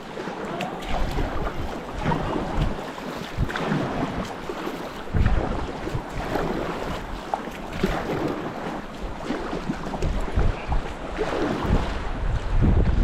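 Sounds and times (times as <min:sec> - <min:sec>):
river water splashing: 0:00.0 - 0:13.0
wind buffeting microphone: 0:00.0 - 0:13.0.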